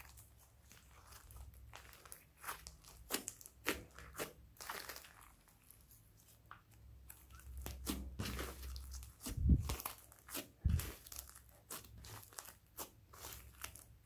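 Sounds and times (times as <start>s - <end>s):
hands squishing slime: 0.0s - 14.0s.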